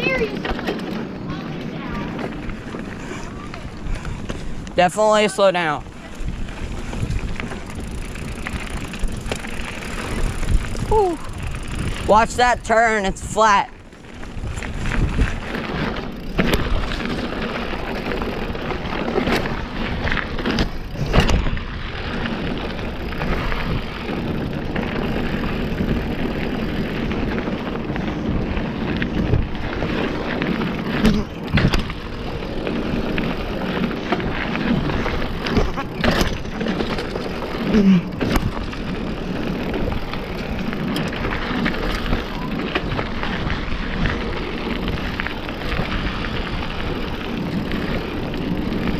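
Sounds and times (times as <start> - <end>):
bike knocking and rattling: 0.0 - 48.9
bike tyres rolling on dirt: 0.0 - 48.9.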